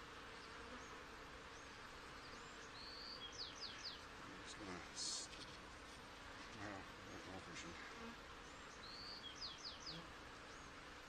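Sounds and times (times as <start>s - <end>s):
honeybee colony humming: 0.0s - 11.0s.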